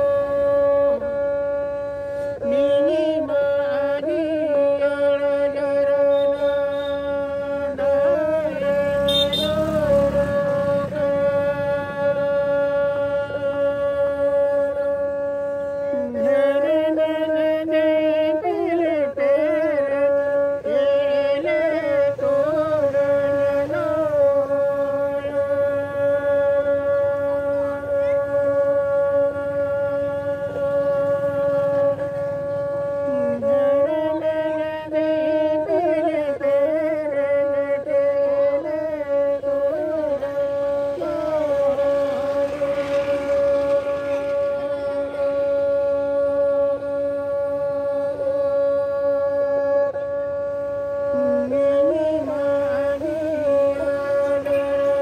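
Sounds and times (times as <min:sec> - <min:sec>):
bowed fiddle melody: 0:00.0 - 0:55.0
fiddle drone note: 0:00.0 - 0:55.0.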